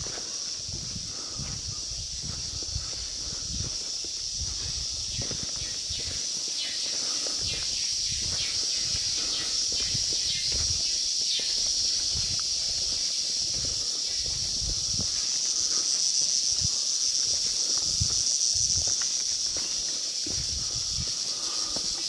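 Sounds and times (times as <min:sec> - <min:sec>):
footsteps on dirt trail: 0:00.0 - 0:22.0
insects high-pitched drone: 0:00.0 - 0:22.0.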